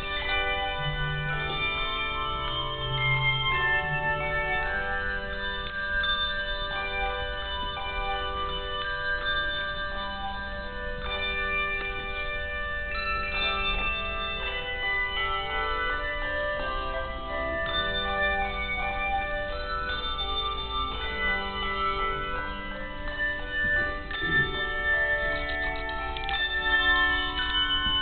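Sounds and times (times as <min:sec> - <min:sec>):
handbell choir playing: 0:00.0 - 0:28.0.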